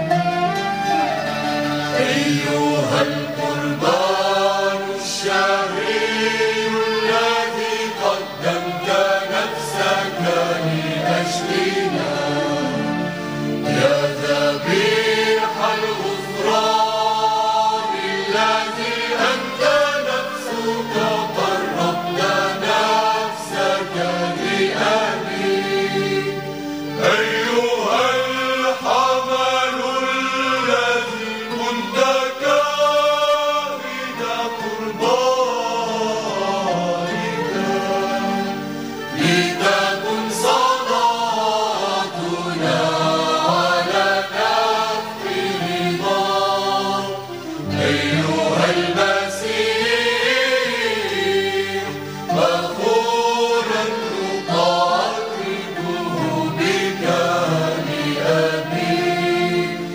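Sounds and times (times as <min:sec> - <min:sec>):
choir singing a hymn: 0:00.0 - 0:59.9
instrumental accompaniment: 0:00.0 - 0:59.9.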